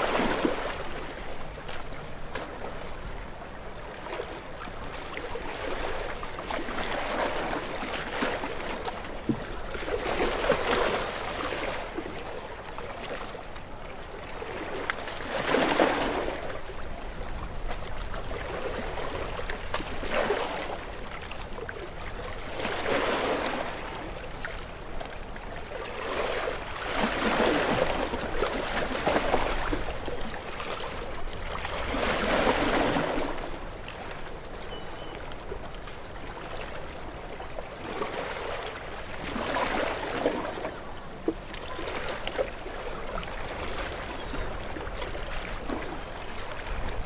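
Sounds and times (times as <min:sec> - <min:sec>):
low rumble of breeze: 0:00.0 - 0:47.0
small waves on shore: 0:00.0 - 0:47.0.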